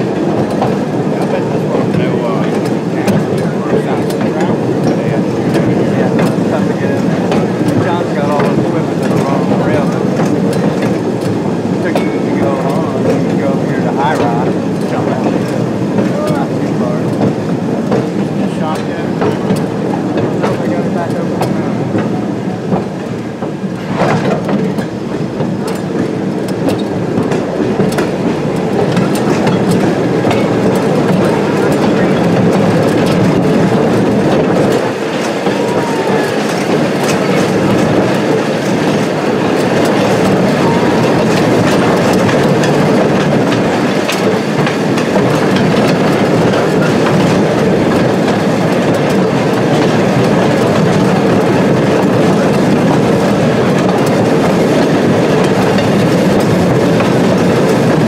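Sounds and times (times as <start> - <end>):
train wheels running on rails: 0.0 - 58.0
wheels clattering over rail joints: 0.0 - 58.0.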